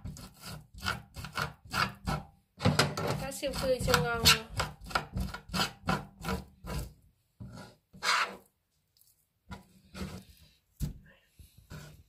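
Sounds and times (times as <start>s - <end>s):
utensil scraping fish flesh: 0.0s - 2.3s, 3.0s - 10.9s, 11.5s - 12.0s.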